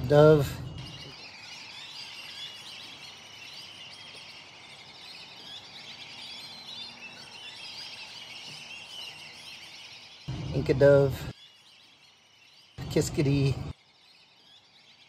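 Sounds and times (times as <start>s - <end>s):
many birds chirping: 0.0s - 15.0s.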